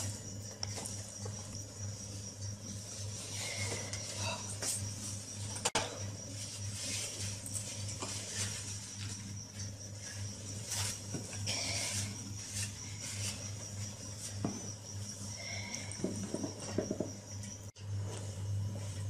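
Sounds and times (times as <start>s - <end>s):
rustling and shuffling: 0.0s - 17.0s
steady low hum: 0.0s - 19.0s.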